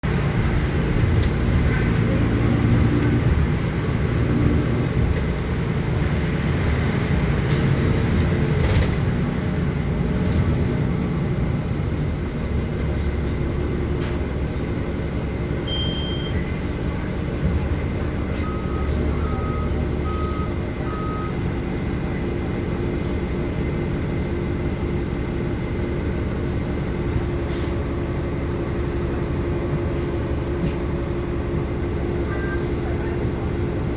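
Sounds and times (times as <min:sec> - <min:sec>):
bus engine and road rumble: 0:00.0 - 0:33.9.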